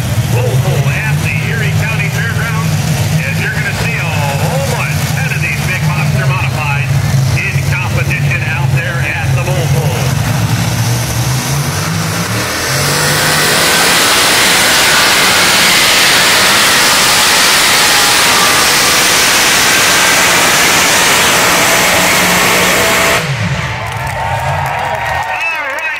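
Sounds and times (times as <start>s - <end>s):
truck engine at full throttle: 0.0s - 25.9s.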